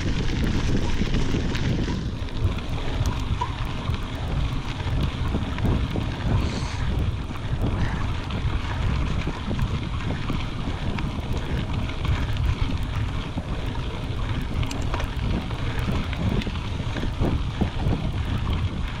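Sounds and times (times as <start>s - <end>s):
small clicks and rattles: 0.0s - 19.0s
tyres rolling on gravel: 0.0s - 19.0s
wind rumbling on microphone: 0.0s - 19.0s.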